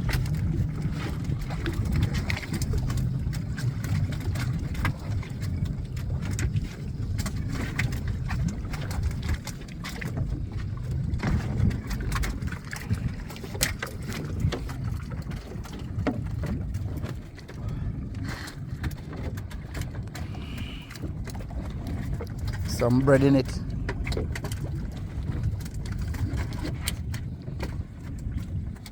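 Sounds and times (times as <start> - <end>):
low rumble of wind: 0.0 - 28.9
water around a boat: 0.0 - 28.9.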